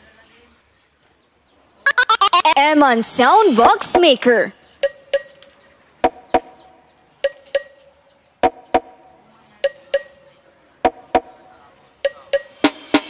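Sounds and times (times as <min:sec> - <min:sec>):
percussion loop: 0:01.9 - 0:13.0.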